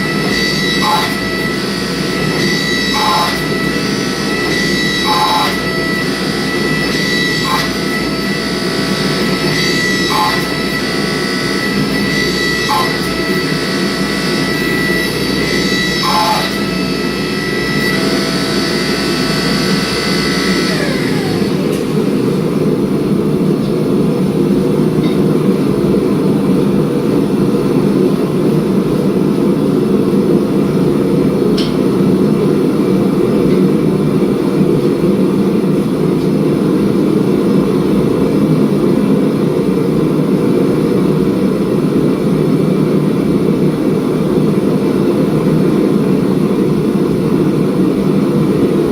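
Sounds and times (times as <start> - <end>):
gas forge burner roar: 0.0 - 48.9
high machine whine: 0.0 - 48.9.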